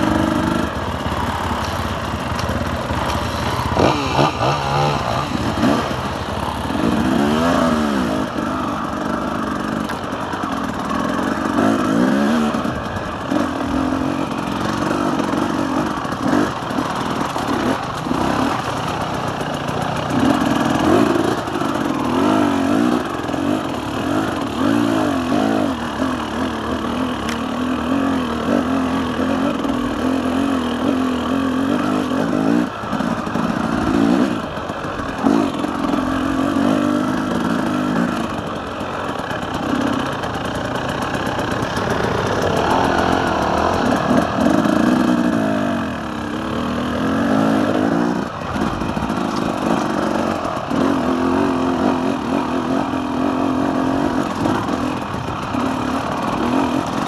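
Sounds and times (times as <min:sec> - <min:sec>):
two-stroke motorcycle engine revving: 0:00.0 - 0:57.0.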